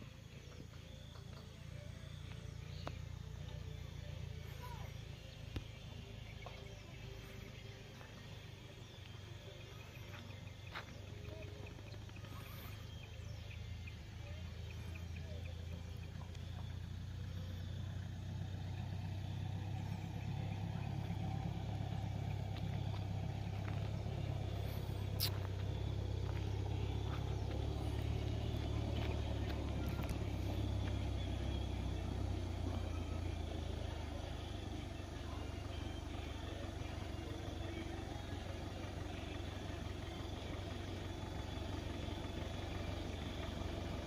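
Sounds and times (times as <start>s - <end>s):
car engine approaching: 0.0s - 44.0s.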